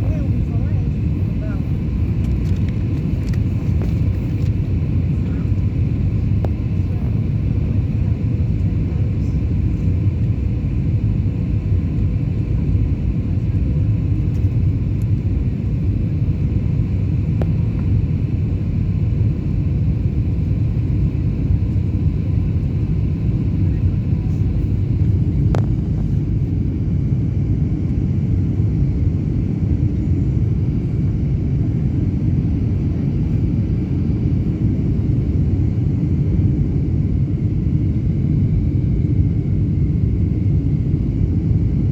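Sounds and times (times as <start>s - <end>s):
airliner cabin rumble: 0.0s - 41.9s
faint steady whine: 0.0s - 41.9s.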